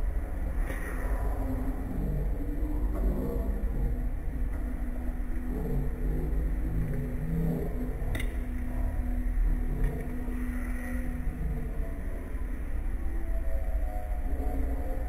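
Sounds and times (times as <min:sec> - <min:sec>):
held hum: 0:00.0 - 0:15.0
steady low rumble: 0:00.0 - 0:15.0.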